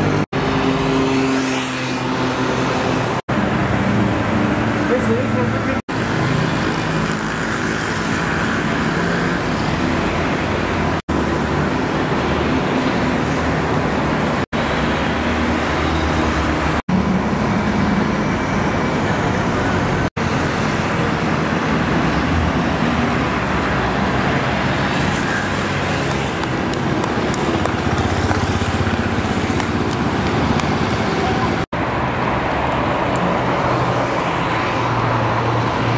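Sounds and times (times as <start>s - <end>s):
vehicle road noise: 0.0s - 35.9s.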